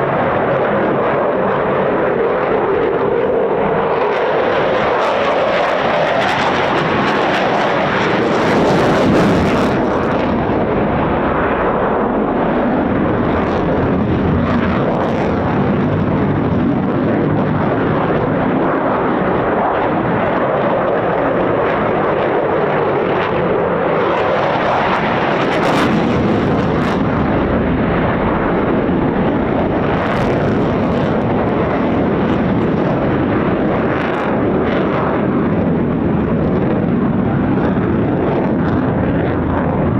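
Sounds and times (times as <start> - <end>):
fighter jet roar: 0.0 - 39.9.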